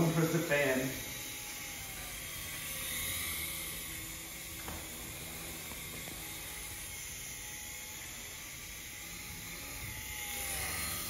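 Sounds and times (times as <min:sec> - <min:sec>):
rotors whirring: 0:00.0 - 0:11.0
toy helicopter motor whine: 0:00.0 - 0:11.0.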